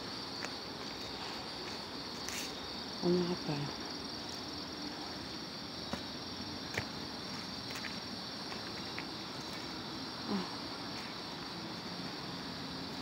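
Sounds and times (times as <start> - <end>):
insects singing: 0.0 - 13.0.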